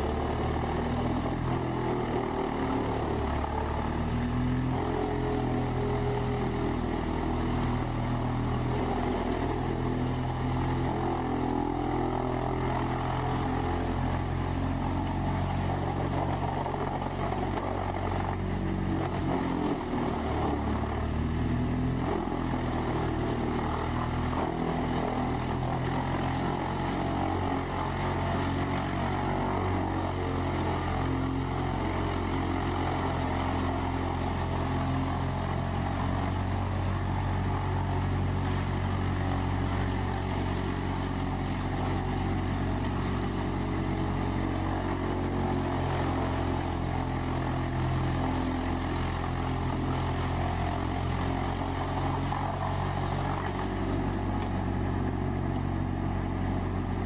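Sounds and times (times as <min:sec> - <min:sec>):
tree chipper engine drone: 0:00.0 - 0:57.0.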